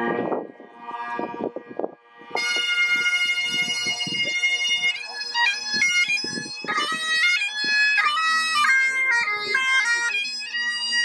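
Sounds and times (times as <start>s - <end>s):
bagpipes playing: 0.0s - 11.0s.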